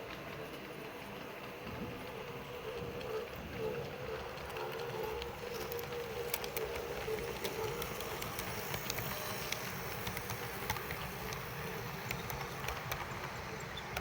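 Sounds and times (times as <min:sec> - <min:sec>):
model train running noise: 0:00.0 - 0:14.0.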